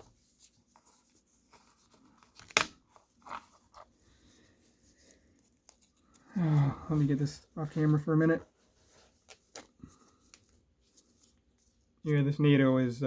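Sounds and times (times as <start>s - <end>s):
watch strap rustling: 0.0s - 12.1s.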